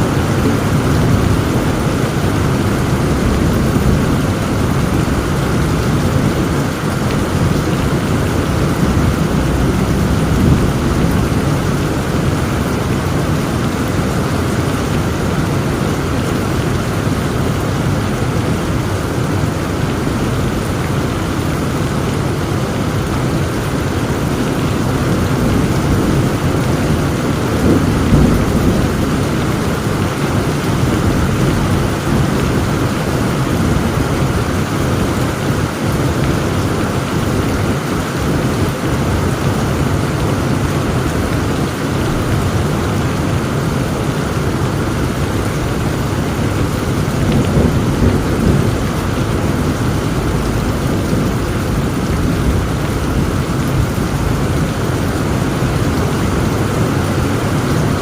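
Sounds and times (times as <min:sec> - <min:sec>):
low rumble of thunder: 0:00.0 - 0:19.2, 0:23.0 - 0:58.0
heavy rain pouring: 0:00.0 - 0:58.0.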